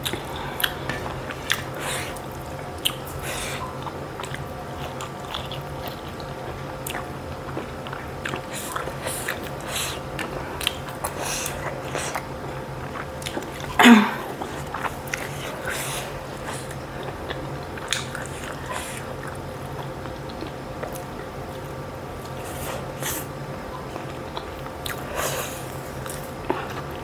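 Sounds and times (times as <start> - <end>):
faint steady hum: 0.0 - 27.0
person chewing food: 0.0 - 27.0.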